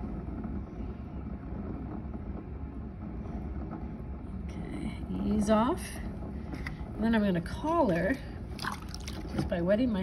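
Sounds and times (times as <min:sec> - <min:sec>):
potter's wheel rumbling: 0:00.0 - 0:10.0.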